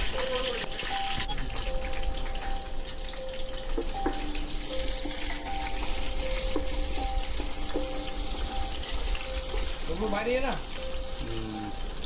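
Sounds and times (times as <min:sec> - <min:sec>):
food sizzling in hot oil: 0:00.0 - 0:12.0
soft background music: 0:00.0 - 0:12.0.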